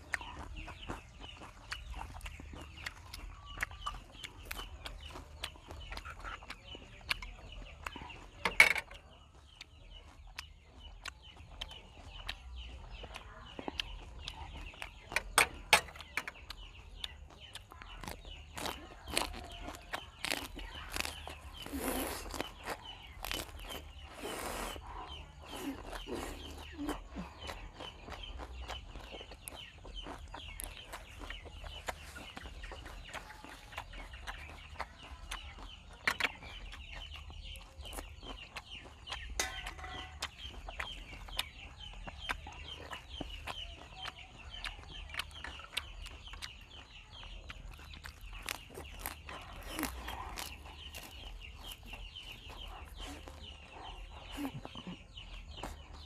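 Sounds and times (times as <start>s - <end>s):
crunchy chewing with mouth clicks: 0.0s - 56.0s.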